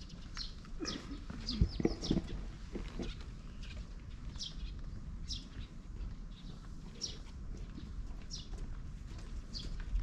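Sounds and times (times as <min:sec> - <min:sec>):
small birds chirping: 0:00.0 - 0:08.8, 0:09.4 - 0:10.0.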